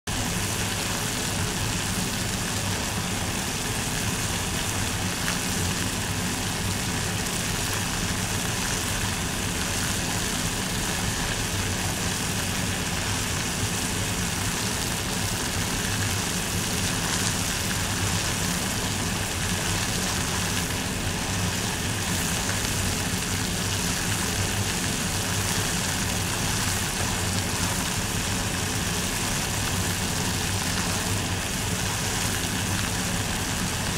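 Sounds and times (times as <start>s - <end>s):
water boiling in a pot: 0.1s - 33.9s.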